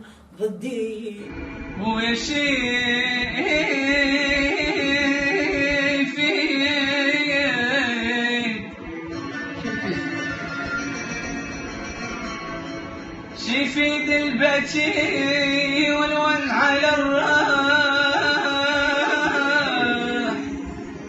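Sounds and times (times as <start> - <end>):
musical accompaniment: 1.3 - 21.0.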